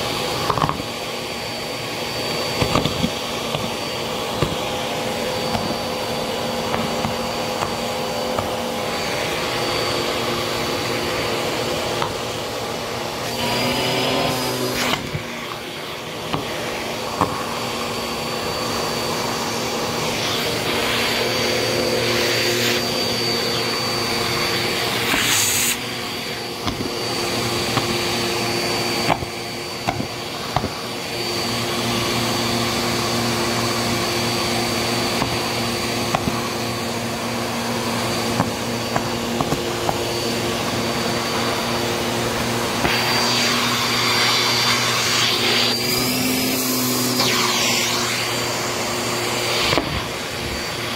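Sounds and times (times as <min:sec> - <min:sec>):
vacuum cleaner whining: 0:00.0 - 0:50.9.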